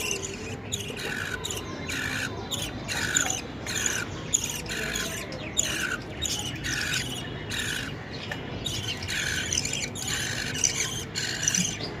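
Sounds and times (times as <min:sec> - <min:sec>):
nestling birds begging calls: 0:00.0 - 0:12.0.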